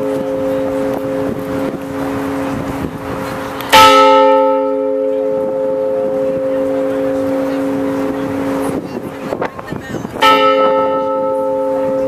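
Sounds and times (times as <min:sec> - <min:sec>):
large bell ringing: 0:00.0 - 0:12.0.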